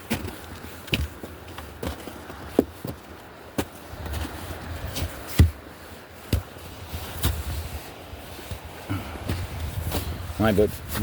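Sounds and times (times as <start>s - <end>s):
footsteps on a trail: 0.0s - 11.0s.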